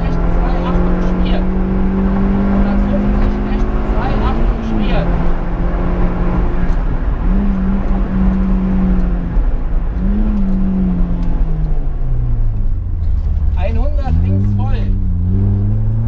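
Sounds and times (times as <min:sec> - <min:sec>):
rally car engine under load: 0:00.0 - 0:16.0.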